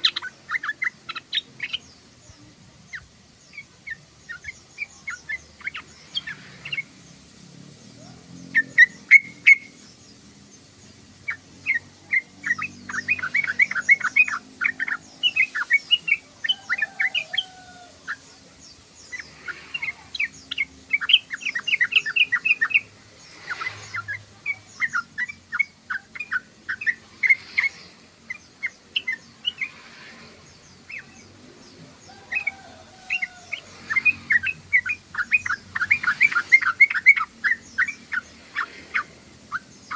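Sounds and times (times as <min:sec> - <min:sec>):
bird chattering: 0:00.0 - 0:06.9, 0:08.5 - 0:09.9, 0:11.2 - 0:31.3, 0:32.0 - 0:39.9.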